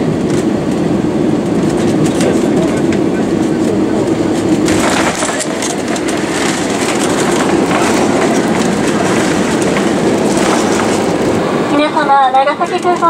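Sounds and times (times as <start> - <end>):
jet engine and airflow rumble: 0.0 - 13.0.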